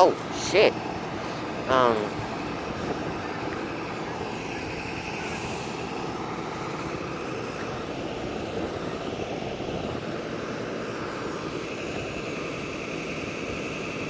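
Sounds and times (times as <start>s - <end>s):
wind buffeting microphone: 0.0s - 12.7s.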